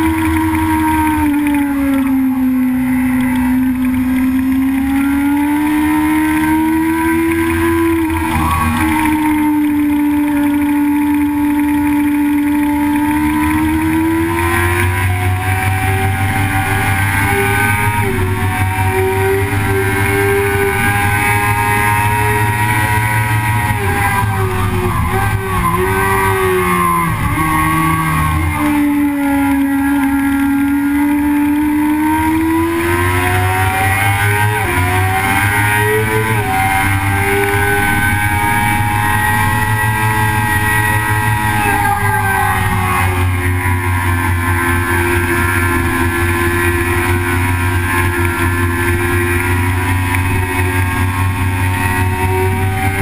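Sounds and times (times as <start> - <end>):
vehicle engine running hard: 0.0 - 53.0.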